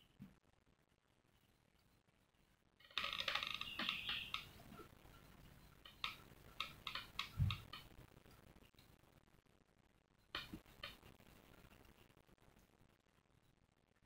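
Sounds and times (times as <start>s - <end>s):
faint clicks and ticks: 0.0s - 14.0s.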